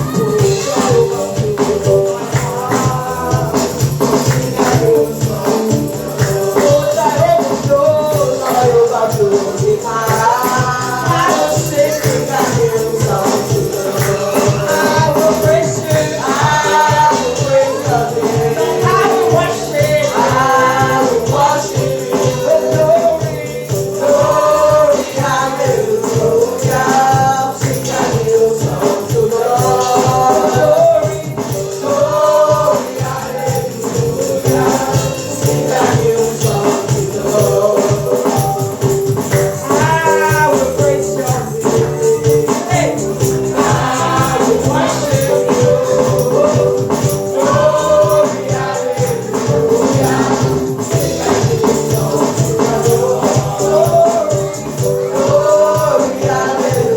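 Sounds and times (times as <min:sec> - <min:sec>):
instrumental accompaniment: 0:00.0 - 0:56.9
shaken percussion rhythm: 0:00.0 - 0:56.9
voices singing worship song: 0:00.0 - 0:56.9.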